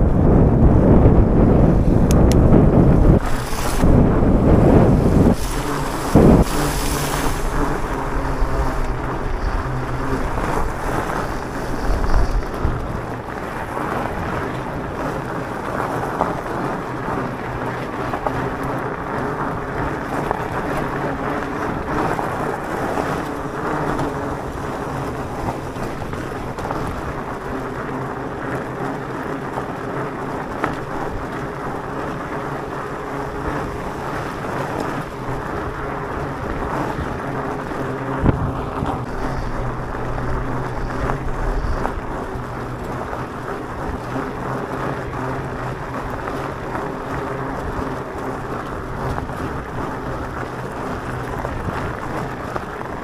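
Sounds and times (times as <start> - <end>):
bike tyres rolling on gravel: 0.0 - 53.0
wind buffeting microphone: 0.0 - 53.0.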